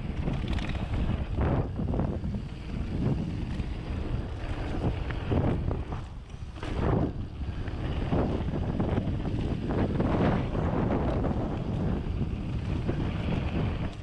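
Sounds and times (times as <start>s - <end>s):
mountain bike rolling on gravel: 0.0s - 14.0s
wind buffeting microphone: 0.0s - 14.0s.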